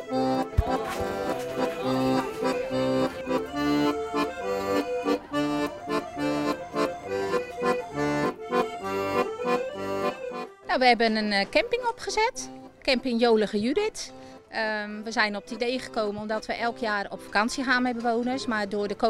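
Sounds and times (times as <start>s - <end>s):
piano accordion playing a tune: 0.0s - 19.0s.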